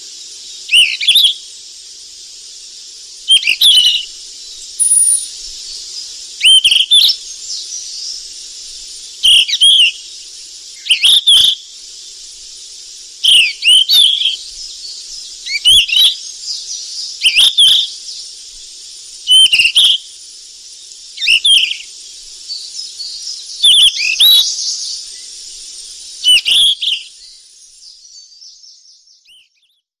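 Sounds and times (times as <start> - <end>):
steady high hiss: 0.0 - 29.2
flycatcher whistled calls: 0.0 - 29.9.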